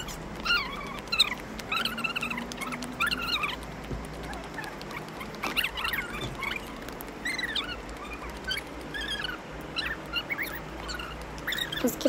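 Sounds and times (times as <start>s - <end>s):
animal squeaky calls: 0.0s - 12.0s.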